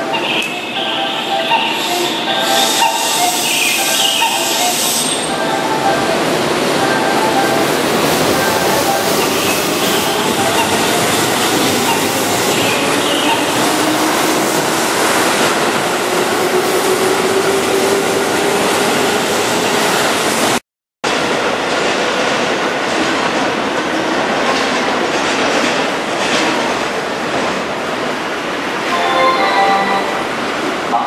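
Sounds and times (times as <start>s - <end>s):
train wheel and rail noise: 0.0s - 31.0s
train wheels clickety-clack: 1.2s - 28.2s.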